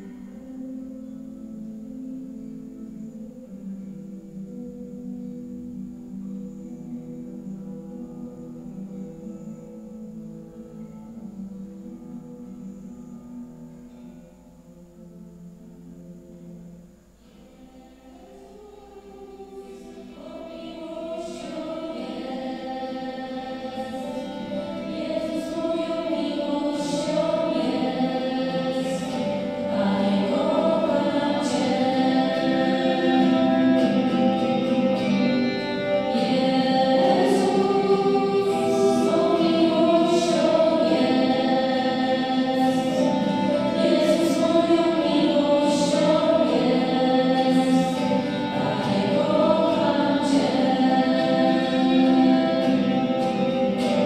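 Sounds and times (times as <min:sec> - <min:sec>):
choir singing sacred music: 0:00.0 - 0:54.0.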